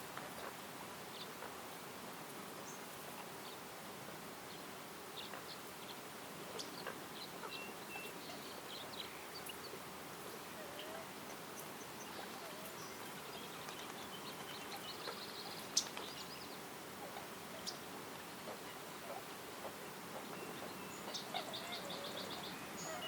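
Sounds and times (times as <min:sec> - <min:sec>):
steady hiss: 0:00.0 - 0:23.0
birds chirping: 0:04.5 - 0:23.0.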